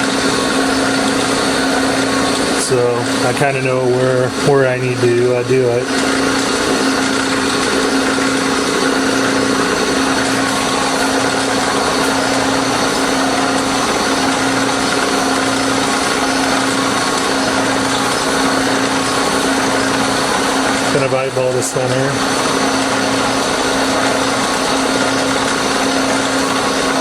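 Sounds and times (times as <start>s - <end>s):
milling machine humming: 0.0s - 27.0s.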